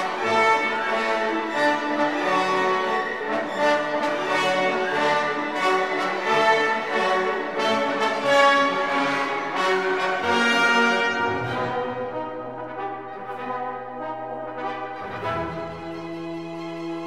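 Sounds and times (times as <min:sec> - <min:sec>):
bowed strings: 0:00.0 - 0:17.0
brass: 0:00.0 - 0:17.0.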